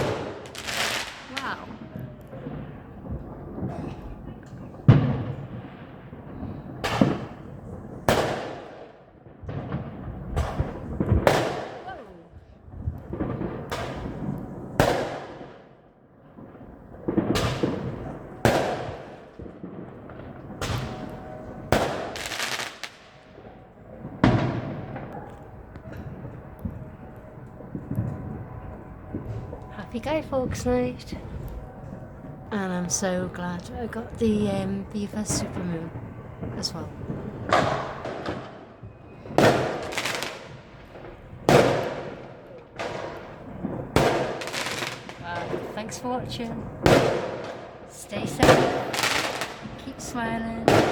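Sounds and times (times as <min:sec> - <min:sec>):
firework crackling: 0:00.0 - 0:15.6, 0:16.4 - 0:27.0, 0:27.6 - 0:50.9
firework bangs: 0:00.0 - 0:50.9.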